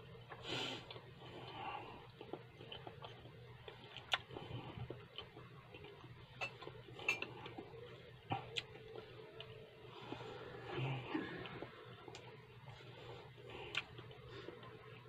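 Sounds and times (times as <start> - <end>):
person chewing food: 0.2 - 15.0.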